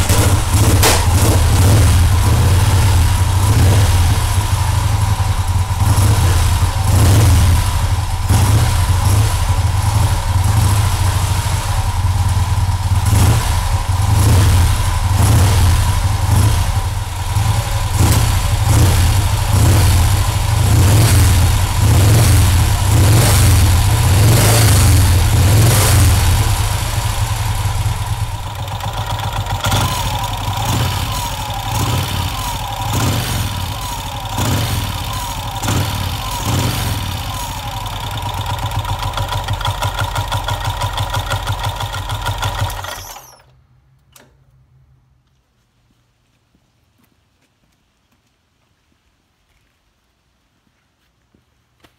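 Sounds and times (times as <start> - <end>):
motorcycle engine revving and idling: 0.0 - 43.5.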